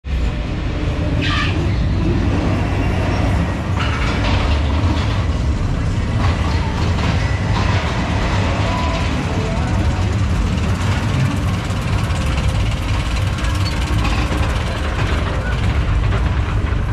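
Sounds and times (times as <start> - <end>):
coaster car rumbling on steel track: 0.0 - 16.9.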